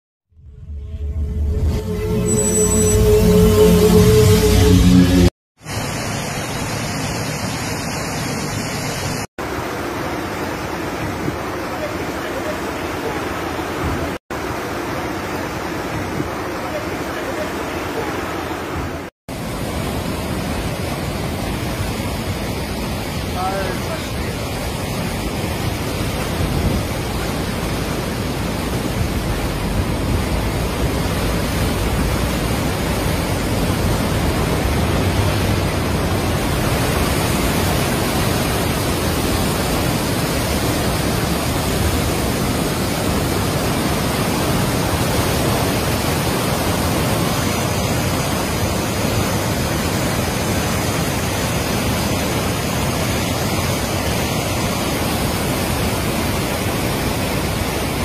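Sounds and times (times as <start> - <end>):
river torrent rushing: 0.8 - 58.0.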